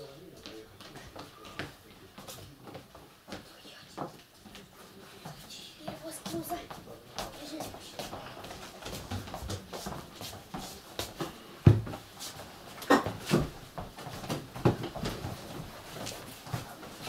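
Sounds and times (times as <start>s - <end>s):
footsteps and shuffling: 0.0s - 17.0s.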